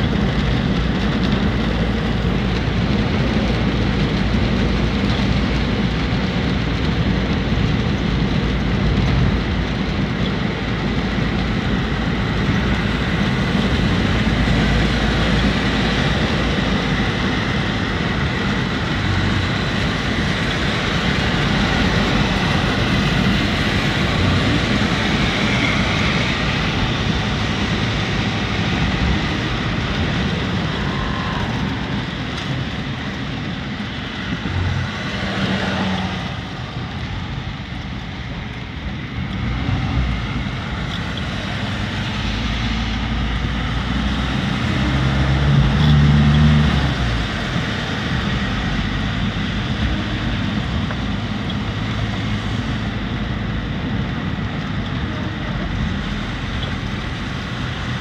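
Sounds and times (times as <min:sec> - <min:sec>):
rain on car body: 0:00.0 - 0:58.0
tyres hissing on wet road: 0:00.0 - 0:58.0.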